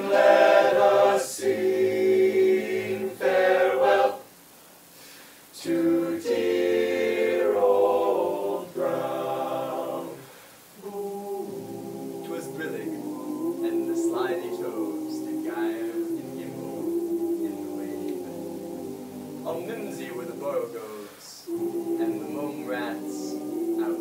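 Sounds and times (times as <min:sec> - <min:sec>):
male a cappella group singing: 0:00.0 - 0:04.3, 0:05.6 - 0:24.0.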